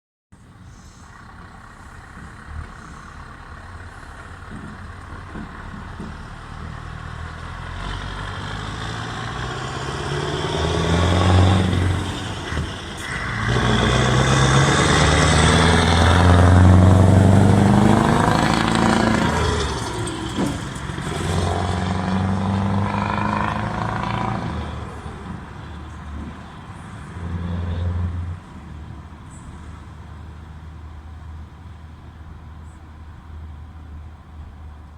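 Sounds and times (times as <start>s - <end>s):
diesel truck engine revving: 0.4s - 30.9s.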